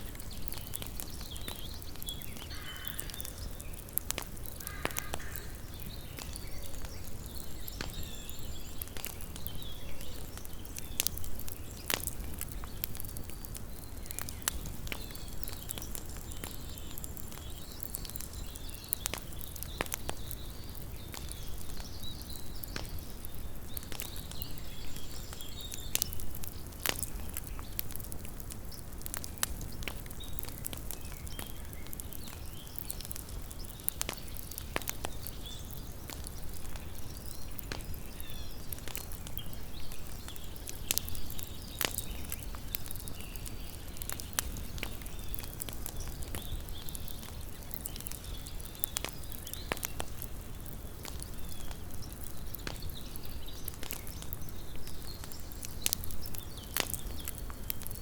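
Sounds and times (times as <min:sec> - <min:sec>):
campfire pops and snaps: 0:00.0 - 0:58.0
flames rumbling: 0:00.0 - 0:58.0.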